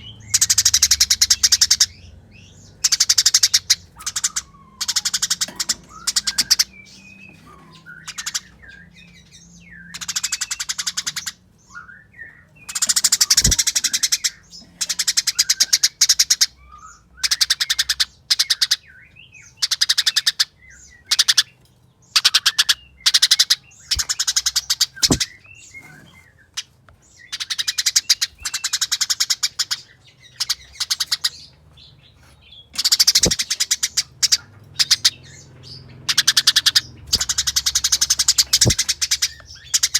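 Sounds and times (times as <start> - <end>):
soft bird chirps: 0.0 - 39.9
sparrows chattering: 0.0 - 39.9.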